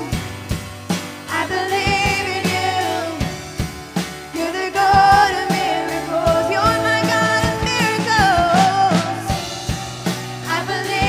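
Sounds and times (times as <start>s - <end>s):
drum kit: 0.0s - 11.0s
woman singing into a microphone: 1.2s - 11.0s.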